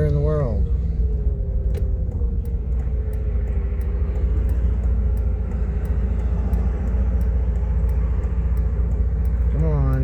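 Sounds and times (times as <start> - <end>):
car engine rumble: 0.0 - 10.0
road noise inside car: 0.0 - 10.0.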